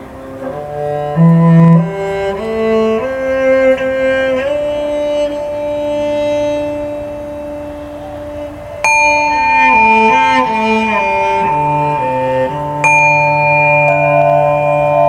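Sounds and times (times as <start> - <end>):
sustained cello-like metal tones: 0.0 - 15.0.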